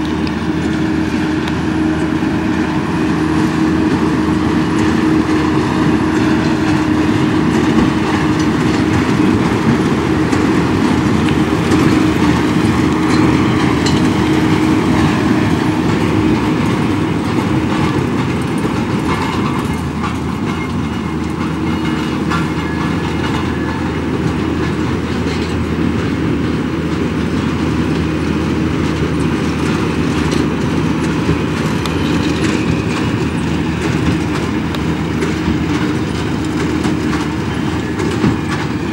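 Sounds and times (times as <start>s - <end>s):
tractor engine drone: 0.0s - 38.9s
baler mechanical clatter: 3.4s - 38.9s.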